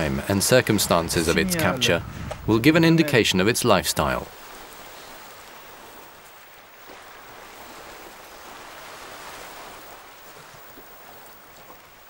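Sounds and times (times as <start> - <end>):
surf washing on a beach: 0.0 - 12.0.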